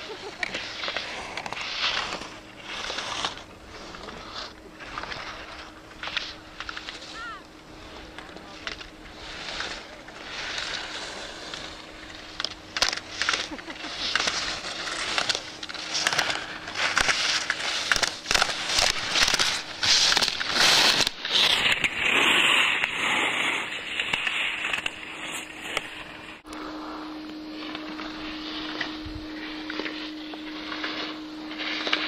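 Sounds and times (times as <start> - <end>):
skis scraping across hard snow: 0.0 - 32.0
steady hum: 0.0 - 32.0.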